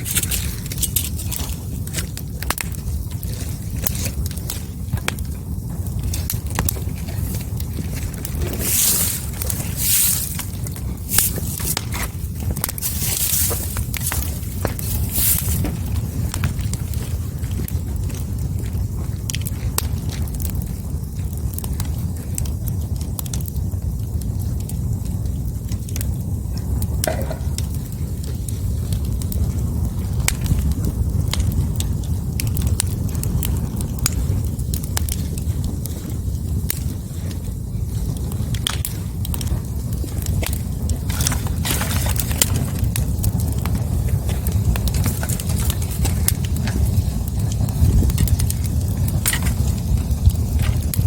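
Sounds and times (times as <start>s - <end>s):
fire crackling and popping: 0.0s - 51.0s
steady low rumble: 0.0s - 51.0s.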